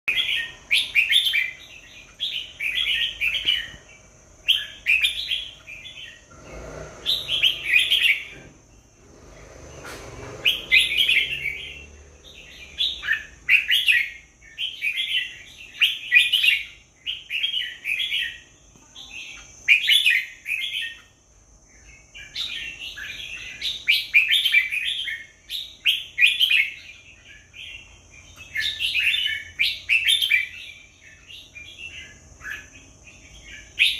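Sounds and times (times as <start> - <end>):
bird warbling song: 0.1 - 33.9.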